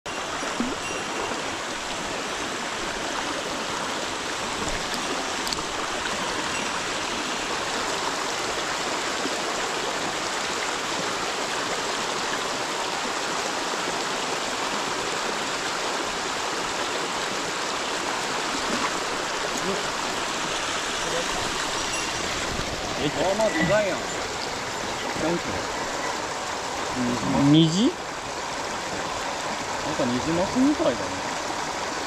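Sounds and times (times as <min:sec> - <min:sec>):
stream rushing over rocks: 0:00.1 - 0:32.0.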